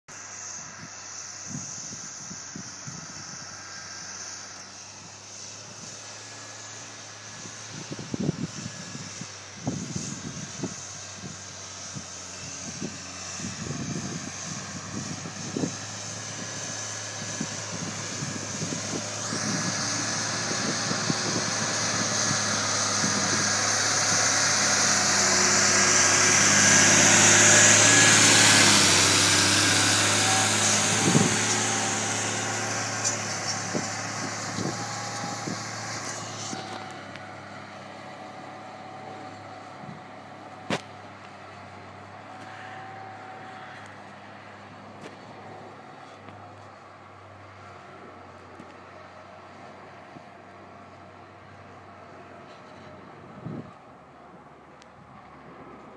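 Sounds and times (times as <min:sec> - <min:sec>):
tractor diesel engine under load: 0:00.0 - 0:55.9
high whine: 0:00.1 - 0:49.0.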